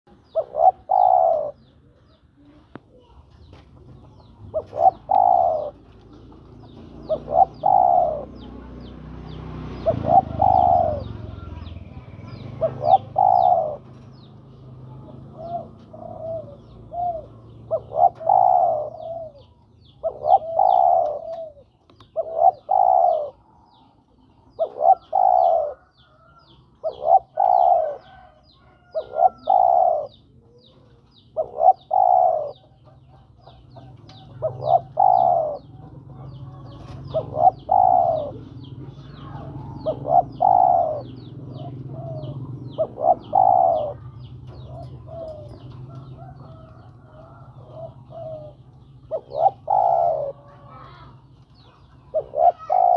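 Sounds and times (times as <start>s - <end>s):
dove cooing: 0.1s - 3.2s, 3.9s - 52.9s
small bird high chirping: 0.1s - 52.9s.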